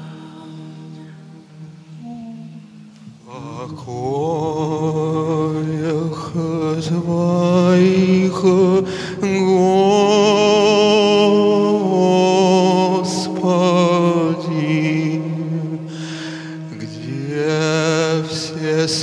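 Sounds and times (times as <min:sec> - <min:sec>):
person chanting with vibrato: 0:00.0 - 0:19.0
steady low drone: 0:00.0 - 0:19.0.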